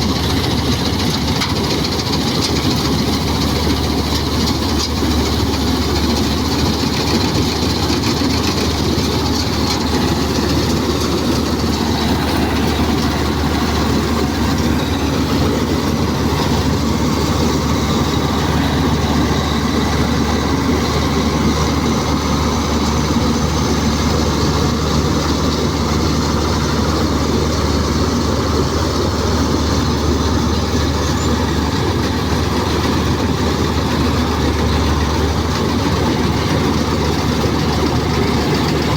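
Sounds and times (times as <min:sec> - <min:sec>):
diesel engine humming: 0:00.0 - 0:38.9
harvester machinery clatter: 0:00.0 - 0:38.9.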